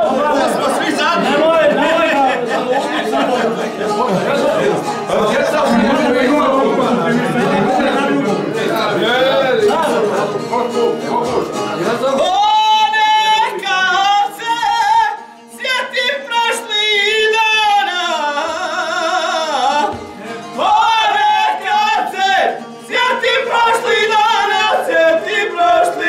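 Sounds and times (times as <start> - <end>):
men singing folk song: 0.0 - 26.0.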